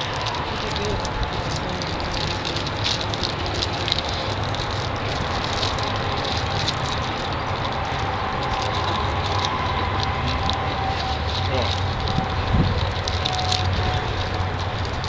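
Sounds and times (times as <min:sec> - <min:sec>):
low fluctuating rumble: 0:00.0 - 0:15.0.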